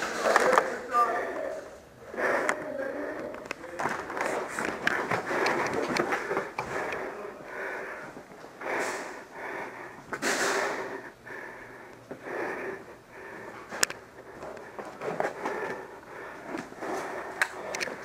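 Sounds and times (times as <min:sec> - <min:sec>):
person breathing close up: 0:01.4 - 0:03.5, 0:04.1 - 0:18.0.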